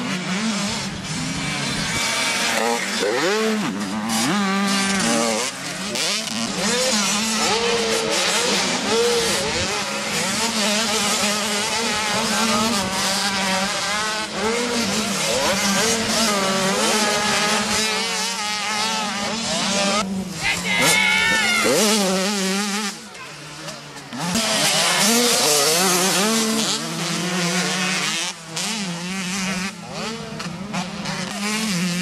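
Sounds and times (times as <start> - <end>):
motocross engines revving: 0.0 - 32.0.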